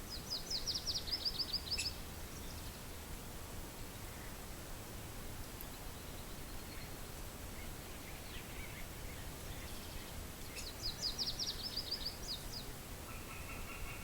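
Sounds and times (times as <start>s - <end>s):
small bird singing: 0.0s - 2.9s, 5.4s - 14.0s
wind: 0.0s - 14.0s.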